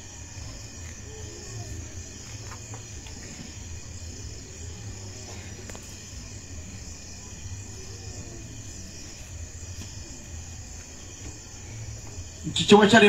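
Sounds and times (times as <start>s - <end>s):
crickets and insects chirring: 0.0s - 13.0s.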